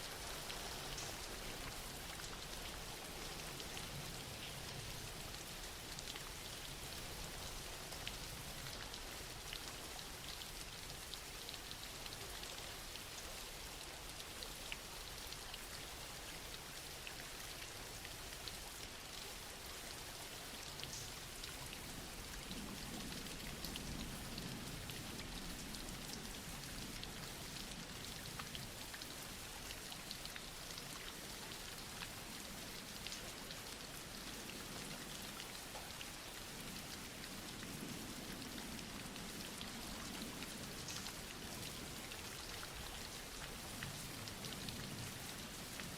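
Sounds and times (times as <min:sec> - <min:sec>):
soft rain falling: 0:00.0 - 0:45.9.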